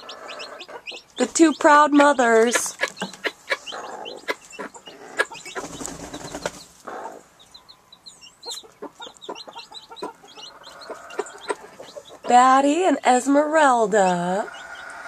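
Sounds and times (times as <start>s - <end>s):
chicks peeping: 0.0s - 15.0s
hens clucking: 0.0s - 15.0s.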